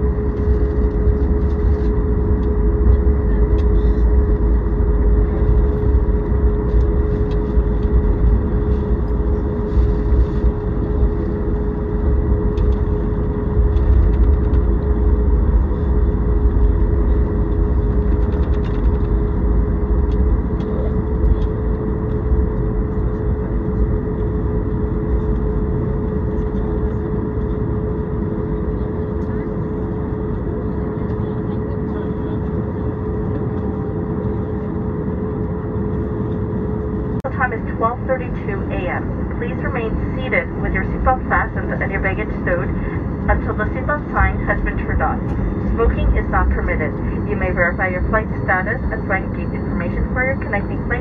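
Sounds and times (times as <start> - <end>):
heavy low rumble: 0.0 - 51.0
jet engines idling hum: 0.0 - 51.0.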